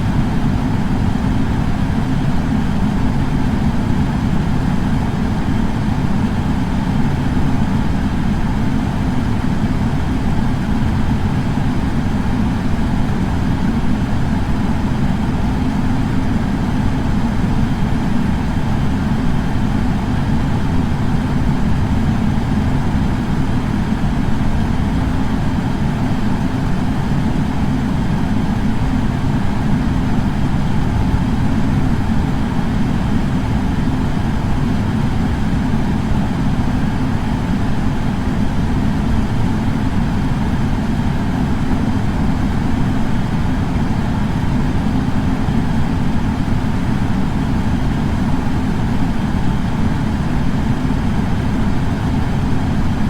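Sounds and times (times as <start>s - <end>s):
air purifier fan running: 0.0s - 53.0s.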